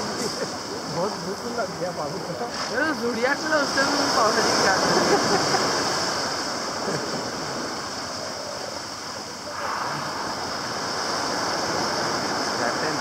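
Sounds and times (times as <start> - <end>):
water rushing on a beach: 0.0 - 13.0.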